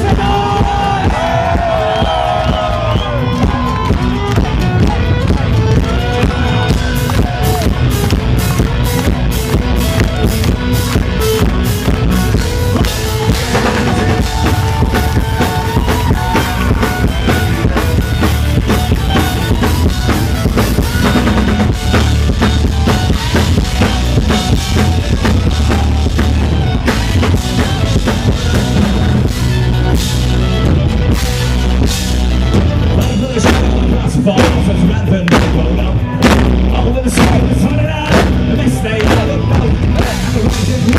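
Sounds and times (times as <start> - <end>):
drum kit beat: 0.0 - 40.9
folk-rock band playing: 0.0 - 40.9.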